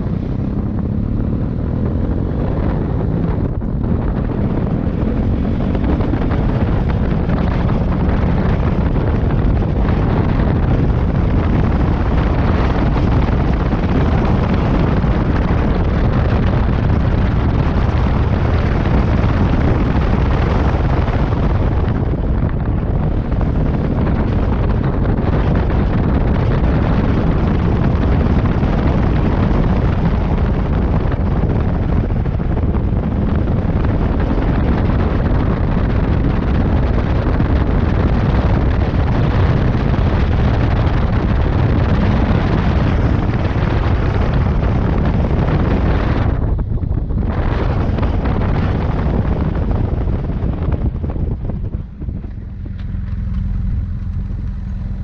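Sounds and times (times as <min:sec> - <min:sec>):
rush of motorcycle ride: 0:00.0 - 0:55.0
wind buffeting microphone: 0:00.0 - 0:55.0.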